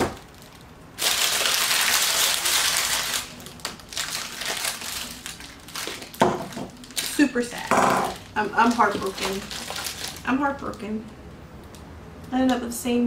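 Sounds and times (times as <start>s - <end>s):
foil wrapper crinkling: 0.0s - 11.1s.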